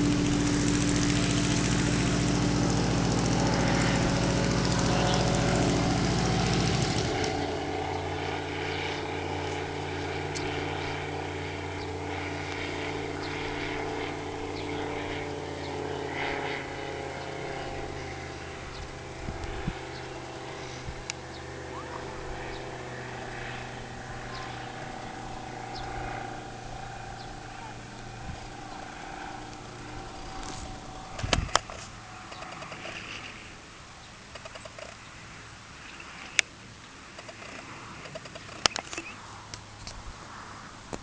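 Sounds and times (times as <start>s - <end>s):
propeller aircraft engine droning: 0.0s - 41.0s.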